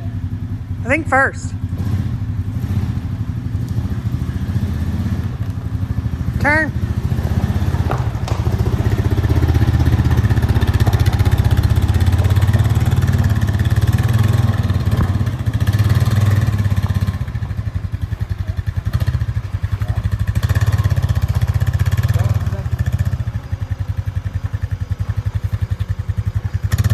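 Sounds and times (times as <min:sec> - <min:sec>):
atv engine droning: 0:00.0 - 0:26.9.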